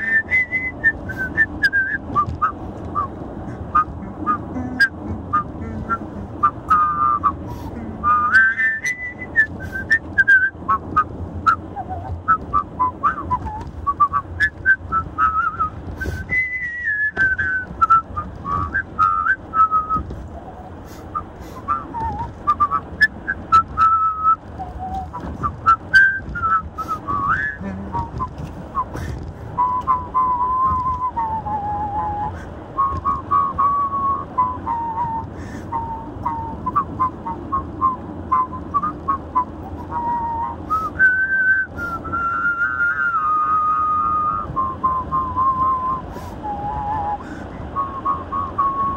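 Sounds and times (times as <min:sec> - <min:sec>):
man whistling a melody: 0:00.0 - 0:20.1, 0:21.0 - 0:48.9
car road and engine rumble: 0:00.0 - 0:48.9.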